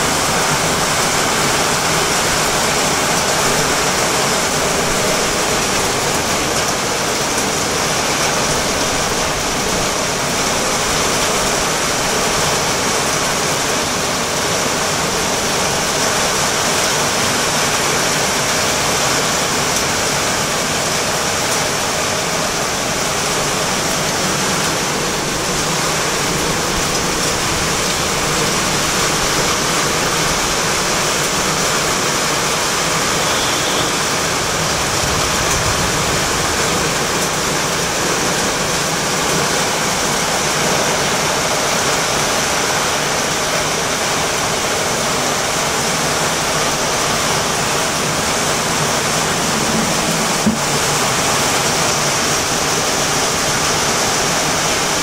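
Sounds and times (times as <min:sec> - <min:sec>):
torrential rain: 0:00.0 - 0:55.0.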